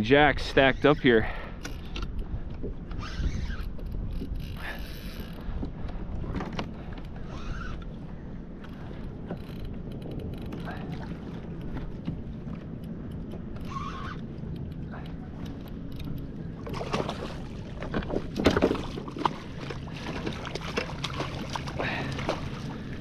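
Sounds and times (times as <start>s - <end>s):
water noise: 0.0s - 23.0s
kayak clicks and knocks: 1.5s - 7.2s, 8.6s - 22.6s.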